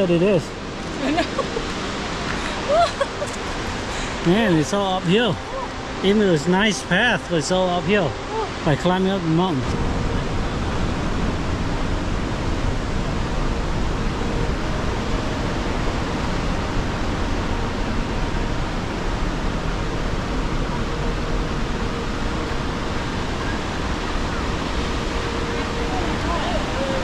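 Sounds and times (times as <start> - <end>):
rushing river water: 0.0 - 27.0.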